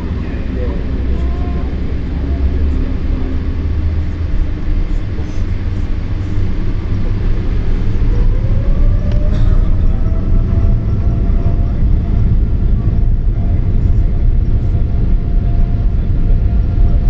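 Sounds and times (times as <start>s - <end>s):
jet engine cabin rumble: 0.0s - 17.0s
jet engine whine rising: 0.0s - 17.0s.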